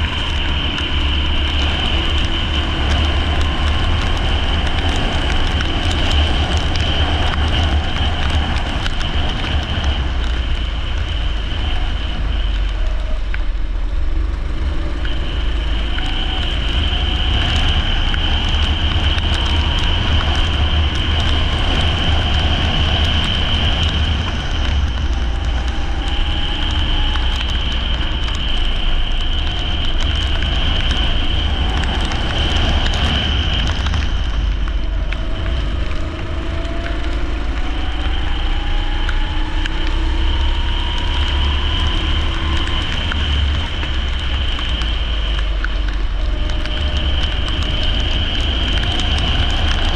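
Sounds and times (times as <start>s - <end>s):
low rumble and hiss: 0.0s - 49.9s.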